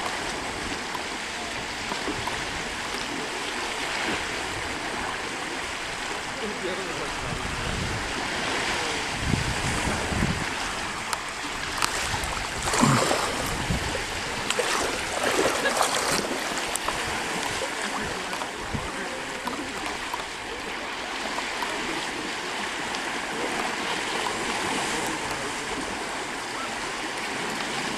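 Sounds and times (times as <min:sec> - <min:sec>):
flowing water rushing: 0:00.0 - 0:27.9.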